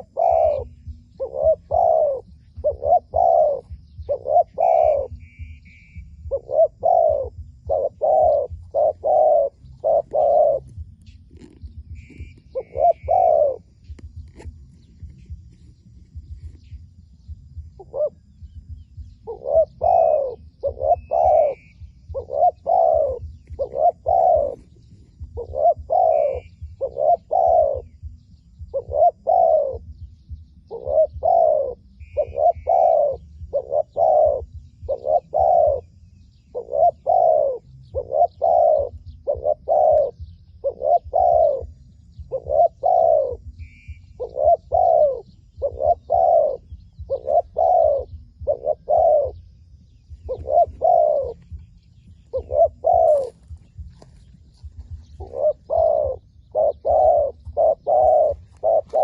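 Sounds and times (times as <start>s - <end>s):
dove cooing: 0.0s - 59.0s
small birds chirping: 0.0s - 59.0s.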